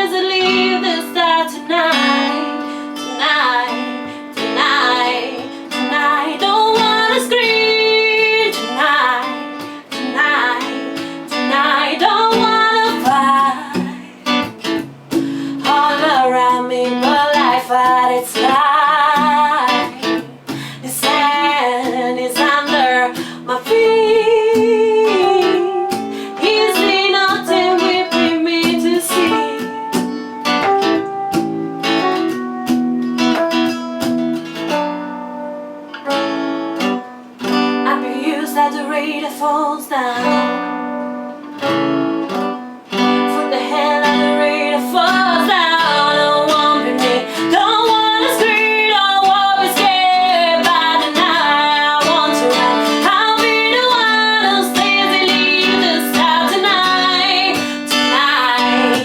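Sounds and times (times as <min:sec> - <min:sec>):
person singing: 0:00.0 - 0:14.4, 0:15.5 - 0:29.9, 0:37.8 - 0:41.0, 0:43.0 - 0:59.0
acoustic guitar strumming: 0:00.0 - 0:59.0.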